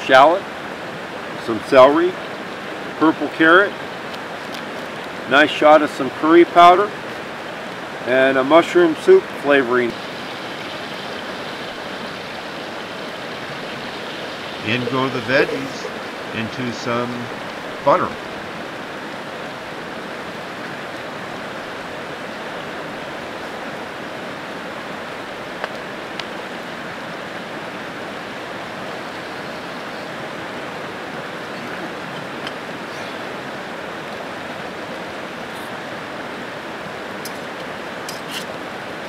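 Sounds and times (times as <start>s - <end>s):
creek rushing: 0.0s - 39.0s.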